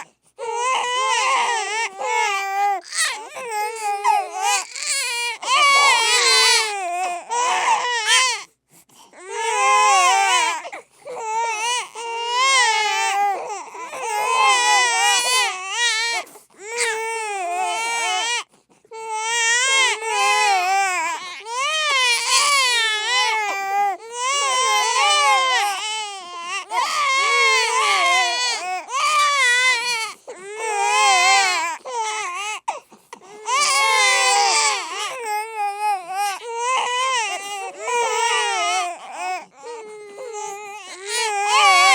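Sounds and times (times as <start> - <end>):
infant crying: 0.0 - 8.5, 9.2 - 41.9.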